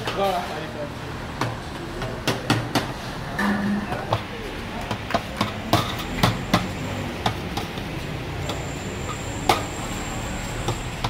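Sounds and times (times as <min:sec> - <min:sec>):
street traffic hum: 0:00.0 - 0:11.0.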